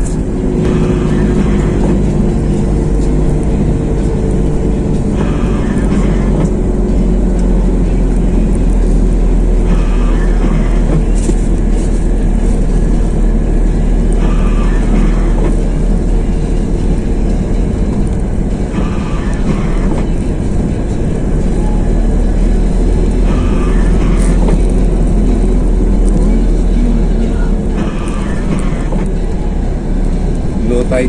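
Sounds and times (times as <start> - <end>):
vehicle interior low rumble: 0.0 - 31.0.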